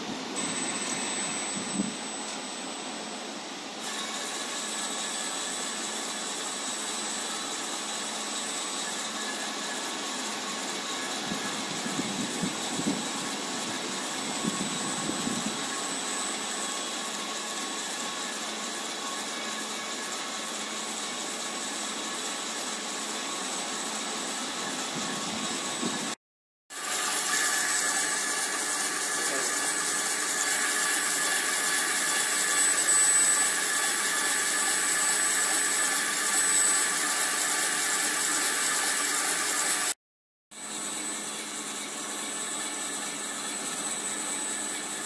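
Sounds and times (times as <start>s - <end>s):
welding rig motor hum and whine: 0.0s - 45.0s.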